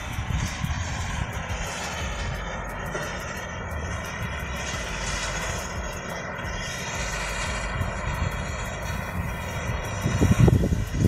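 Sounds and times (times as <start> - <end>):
engine droning steadily: 0.0 - 11.0.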